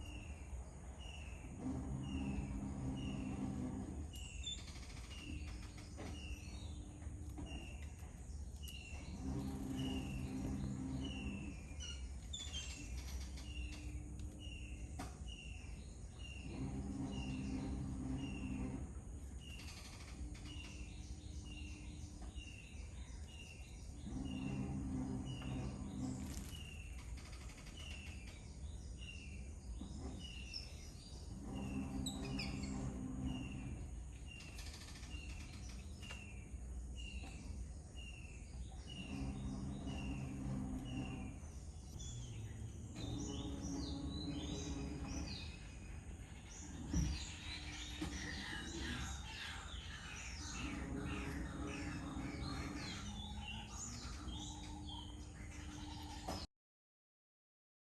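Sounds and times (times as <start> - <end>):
low hum: 0.0 - 56.4
birds chirping: 0.0 - 56.5.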